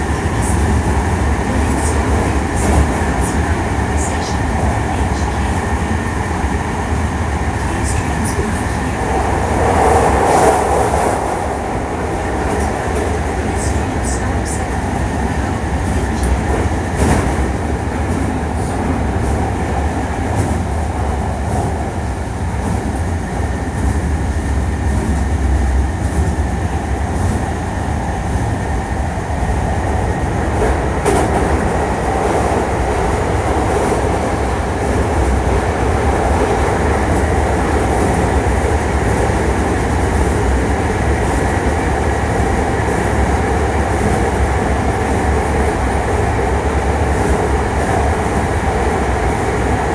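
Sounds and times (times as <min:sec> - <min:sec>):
train wheels rolling on rails: 0:00.0 - 0:49.9.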